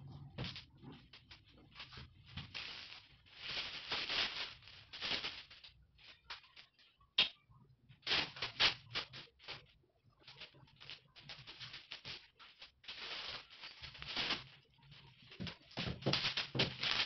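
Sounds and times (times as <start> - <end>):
faint low hum: 0.0 - 17.0
stretch wrap crackling: 0.4 - 7.0, 8.0 - 17.0.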